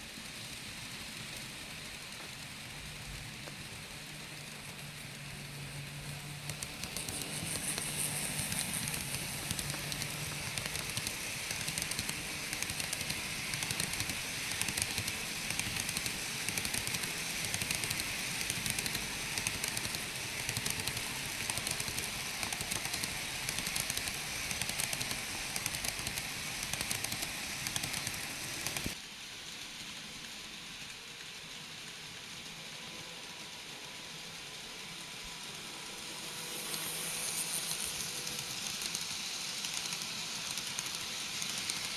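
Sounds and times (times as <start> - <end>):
model train wheels rattling: 0.0 - 29.0, 36.0 - 41.9
faint motor whine: 0.0 - 41.9.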